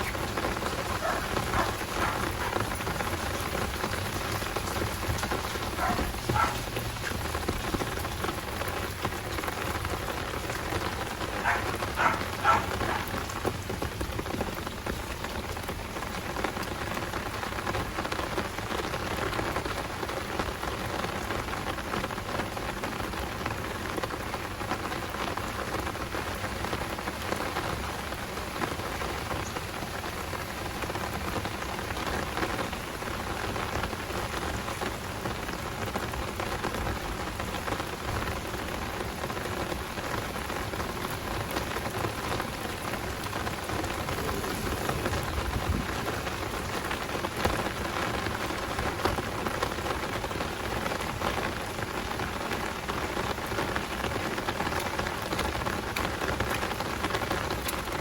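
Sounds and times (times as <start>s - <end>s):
heavy rain hiss: 0.0s - 58.0s
raindrops ticking: 0.0s - 58.0s.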